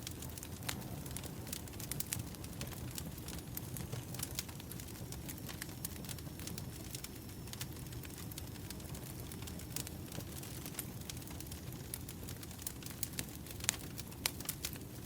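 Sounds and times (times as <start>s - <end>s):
fire low rumble: 0.0s - 15.0s
firewood crackling and popping: 0.0s - 15.0s.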